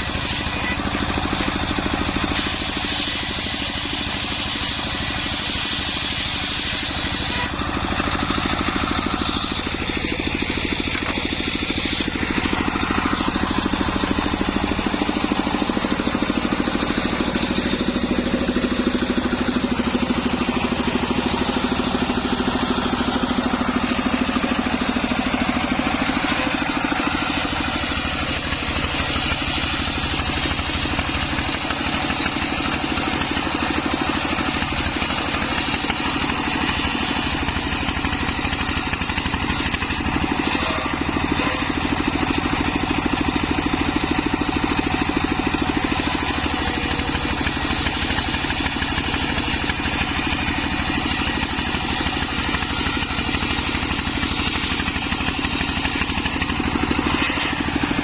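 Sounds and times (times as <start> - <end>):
circular saw running: 0.0 - 58.0.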